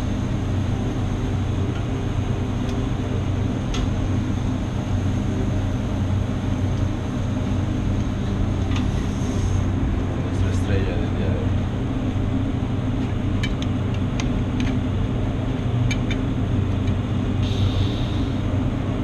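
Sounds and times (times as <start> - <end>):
extractor hood drone: 0.0 - 19.0
low hum: 0.0 - 19.0.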